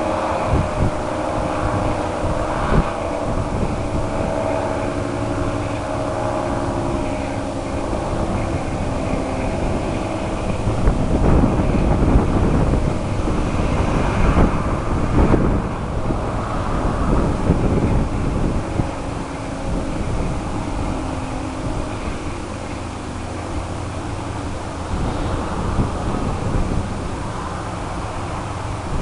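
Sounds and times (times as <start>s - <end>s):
three-tone warning siren: 0.0s - 29.0s
wind buffeting microphone: 0.0s - 29.0s.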